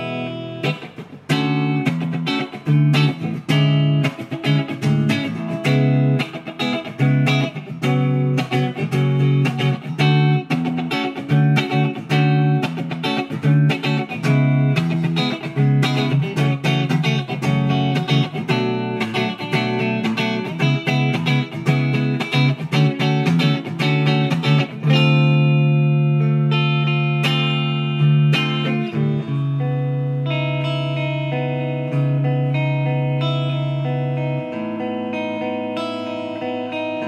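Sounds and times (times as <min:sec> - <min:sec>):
clean electric guitar: 0:00.0 - 0:37.0.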